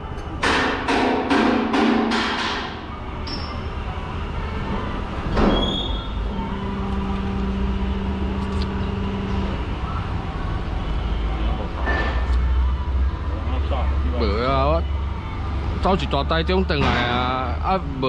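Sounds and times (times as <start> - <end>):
steady hum: 0.0 - 18.0
diesel engine idling: 2.8 - 18.0.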